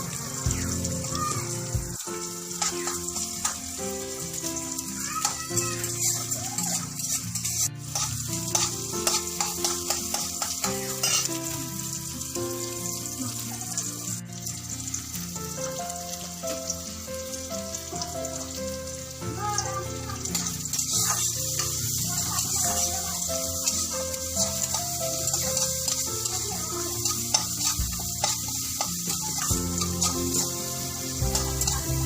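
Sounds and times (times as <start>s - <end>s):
background music: 0.0s - 32.0s
food sizzling in a hot pan: 0.0s - 32.0s.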